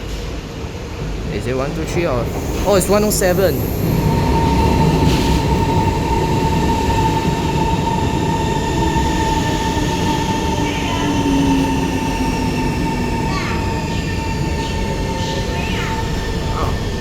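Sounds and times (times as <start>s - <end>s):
metro train braking: 0.0s - 17.0s
wheel and rail noise: 0.1s - 17.0s
steady high tone: 2.0s - 17.0s.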